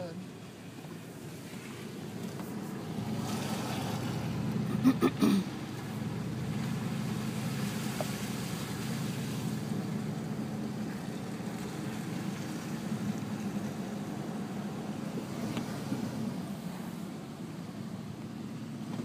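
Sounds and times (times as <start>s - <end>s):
car road noise: 0.0s - 19.0s.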